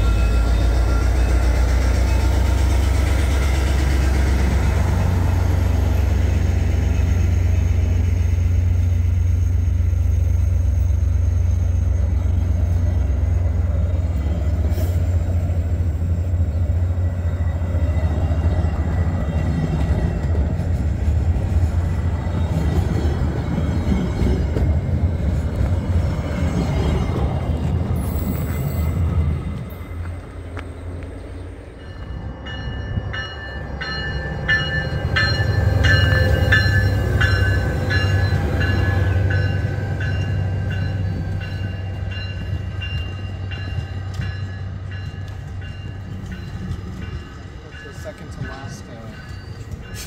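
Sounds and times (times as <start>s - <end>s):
freight train rumbling past: 0.0s - 50.0s.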